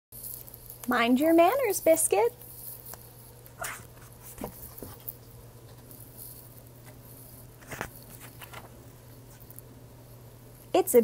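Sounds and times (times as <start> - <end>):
low steady hum: 0.2 - 11.0.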